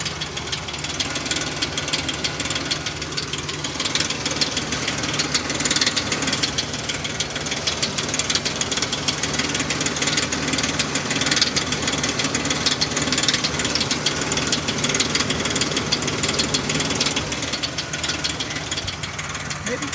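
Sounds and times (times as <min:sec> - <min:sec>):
car engine idling with rattle: 0:00.0 - 0:19.9.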